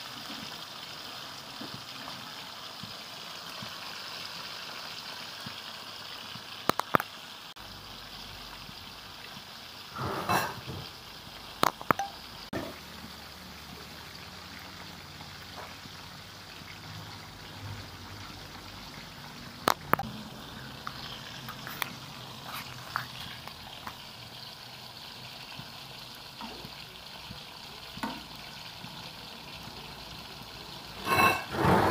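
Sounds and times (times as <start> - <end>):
water running and splashing: 0.0 - 31.8.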